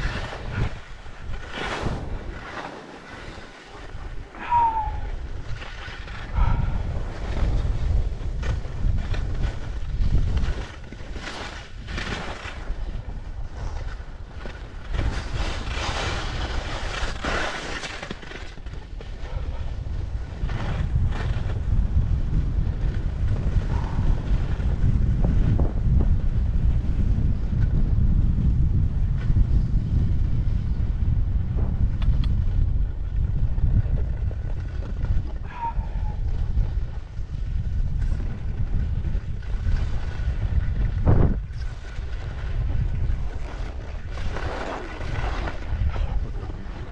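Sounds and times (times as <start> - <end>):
skis scraping over hard snow: 0.0 - 27.6, 31.6 - 46.9
wind buffeting microphone: 0.0 - 46.9.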